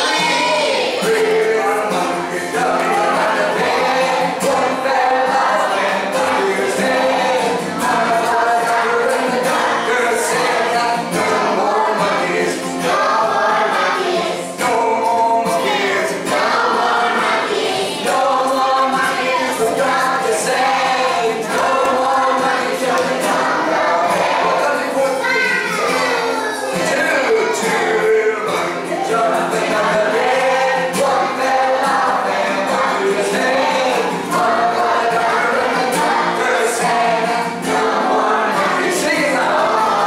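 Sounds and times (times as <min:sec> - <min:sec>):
man singing: 0:00.0 - 0:26.1, 0:26.7 - 0:40.0
acoustic guitar strumming: 0:00.0 - 0:40.0
children singing along: 0:00.0 - 0:40.0.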